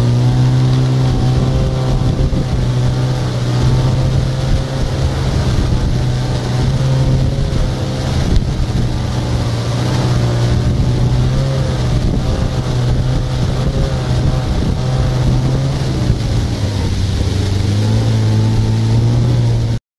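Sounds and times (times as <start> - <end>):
engine humming steadily: 0.0 - 19.8.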